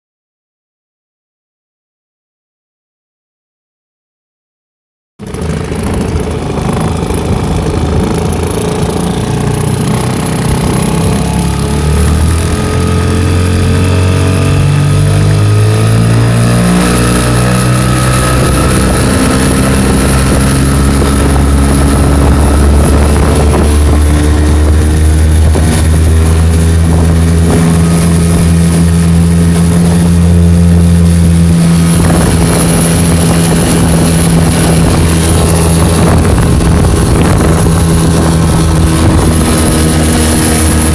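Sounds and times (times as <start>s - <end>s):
outboard motor running hard: 5.2s - 40.9s
rattling buzz: 5.2s - 40.9s.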